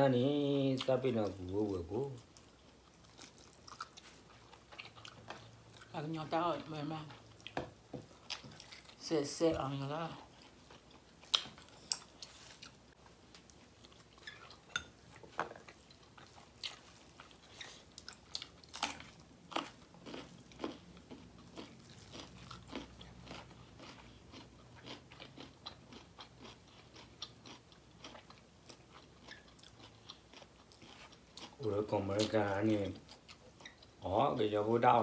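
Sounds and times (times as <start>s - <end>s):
people crunching and chewing food: 0.2s - 34.2s.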